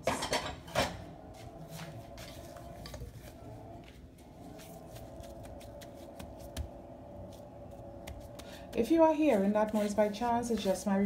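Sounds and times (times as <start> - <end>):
refrigerator humming: 0.0 - 11.0.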